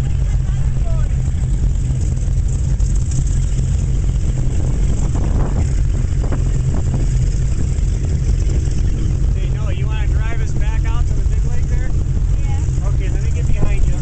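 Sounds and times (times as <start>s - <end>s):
rush of wind and water: 0.0s - 14.0s
speedboat engine droning: 0.0s - 14.0s.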